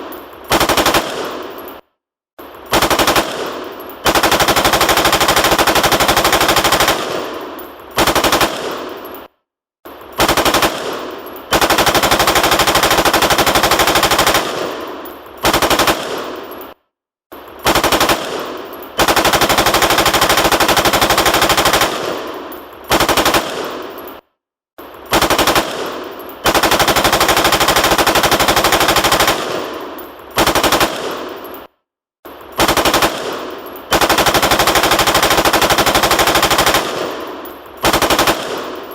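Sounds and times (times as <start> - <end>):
automatic gunfire bursts: 0.5 - 1.6, 2.7 - 9.1, 10.2 - 16.5, 17.6 - 24.0, 25.1 - 31.5, 32.6 - 38.9.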